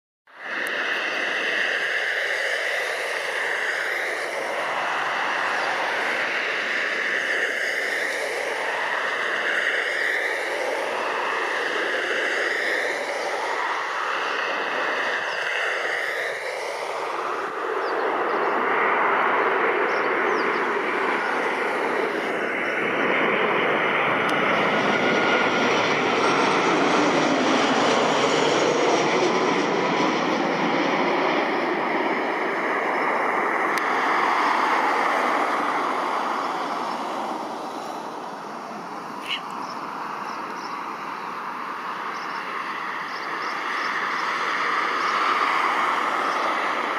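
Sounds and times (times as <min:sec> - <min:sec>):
jet passing low overhead: 0:00.3 - 0:46.9.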